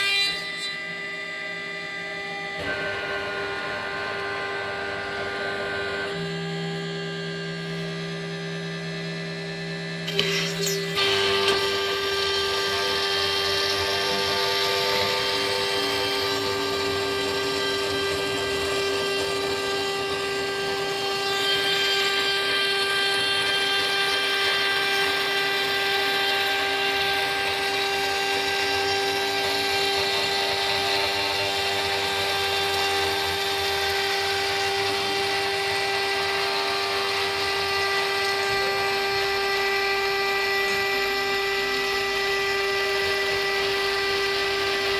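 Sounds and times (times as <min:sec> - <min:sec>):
cnc router whine: 0:00.0 - 0:44.9.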